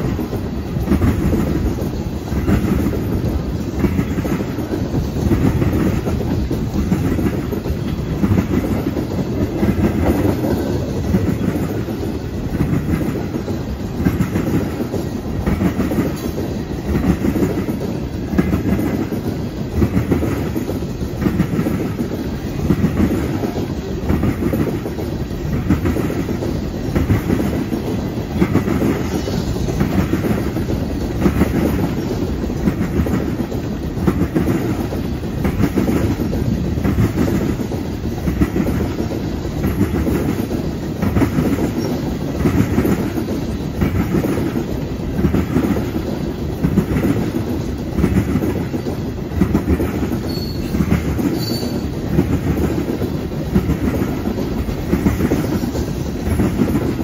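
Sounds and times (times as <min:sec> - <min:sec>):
train rumble: 0:00.0 - 0:57.0
train wheels clacking: 0:00.0 - 0:57.0.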